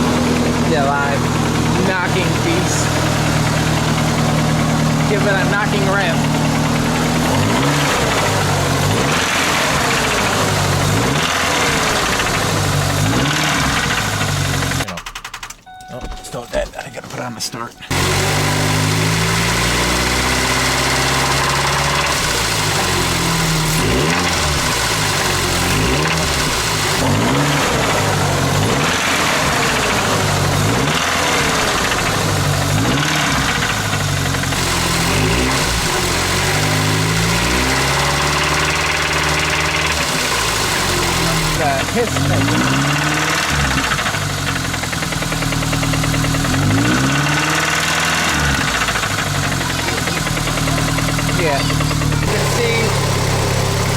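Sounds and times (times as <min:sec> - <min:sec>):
truck engine revving: 0:00.0 - 0:15.6, 0:17.2 - 0:53.9.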